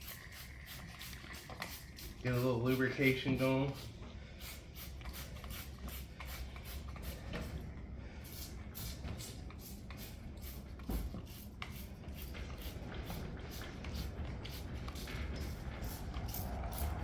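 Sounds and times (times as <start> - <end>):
rhythmic swishing on tire: 0.0 - 17.0.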